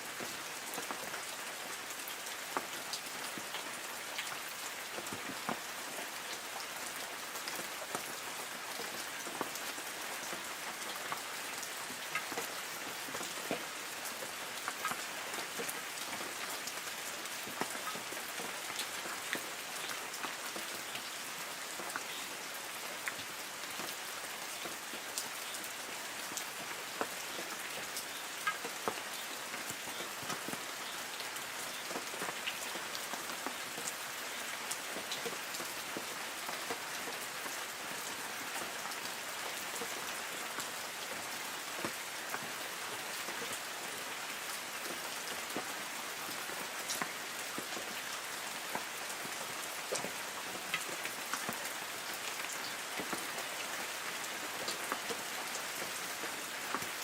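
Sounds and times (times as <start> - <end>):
light rain on tree leaves: 0.0 - 57.0.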